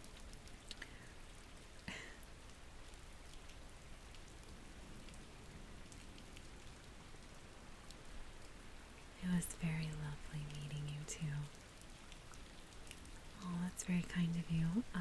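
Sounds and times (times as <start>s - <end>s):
faint rain falling: 0.0s - 15.0s.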